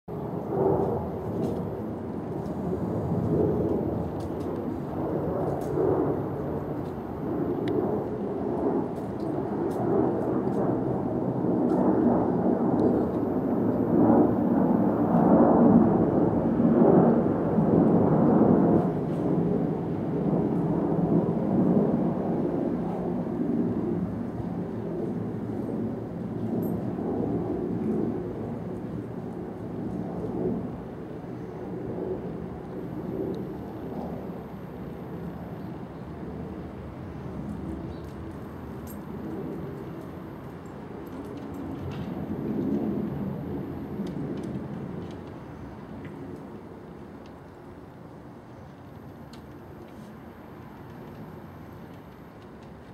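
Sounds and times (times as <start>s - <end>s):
jet engines roaring: 0.1s - 52.9s.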